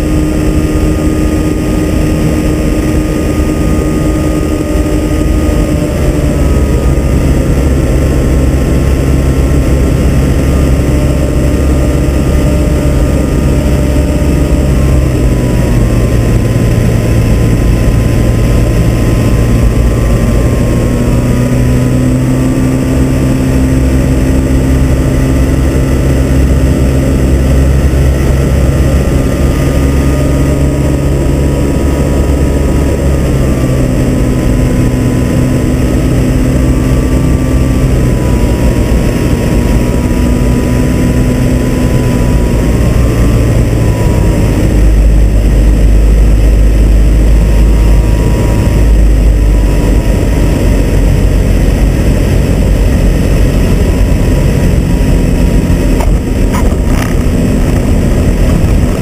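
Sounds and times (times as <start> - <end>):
heavy low rumble: 0.0 - 59.0
light aircraft engine running: 0.0 - 59.0
wind rushing: 0.0 - 59.0.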